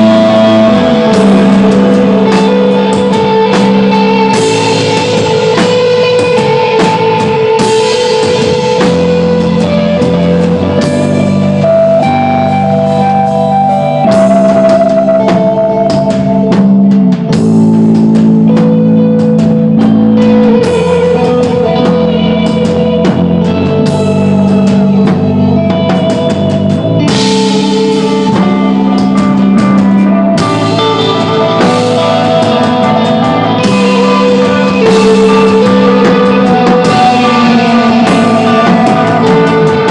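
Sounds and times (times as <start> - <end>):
bass guitar: 0.0 - 39.9
drum kit: 0.0 - 39.9
electric guitar sustained notes: 0.0 - 39.9.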